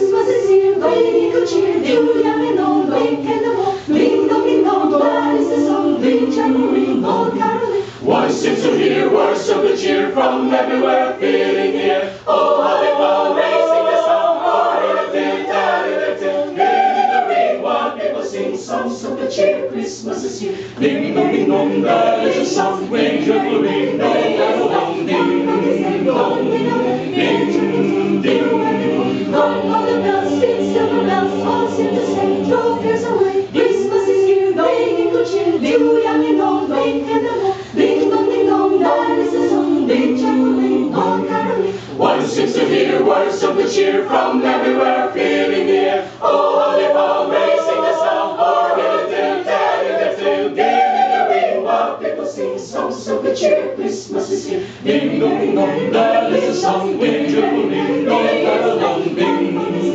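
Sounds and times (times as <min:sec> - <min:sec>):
mixed choir singing a cappella: 0:00.0 - 0:59.9.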